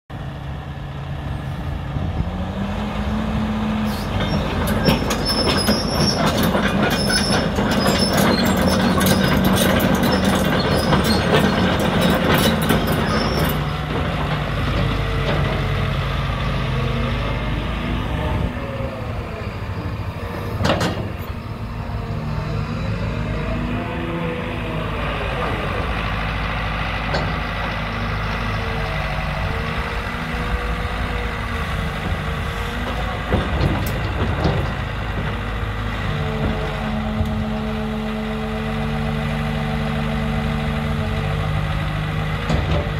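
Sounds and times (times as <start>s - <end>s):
diesel engine revving: 0.2s - 42.9s
hydraulics whining: 1.3s - 42.9s
steel tracks clanking and squealing: 3.8s - 38.3s.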